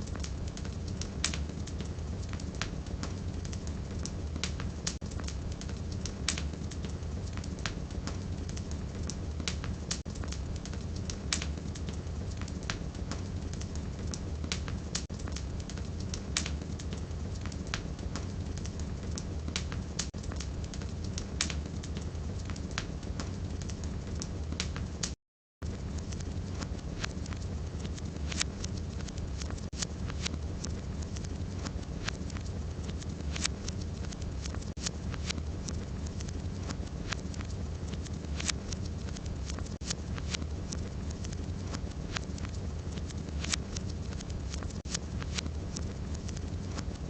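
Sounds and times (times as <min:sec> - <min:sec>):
fire flames rumbling: 0:00.0 - 0:47.0
firewood crackling and popping: 0:00.0 - 0:47.0.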